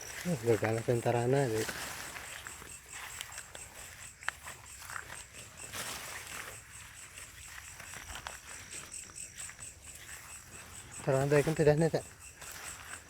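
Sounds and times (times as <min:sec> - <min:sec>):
crickets chirping: 0:00.0 - 0:13.0
footsteps through vegetation: 0:00.0 - 0:13.0.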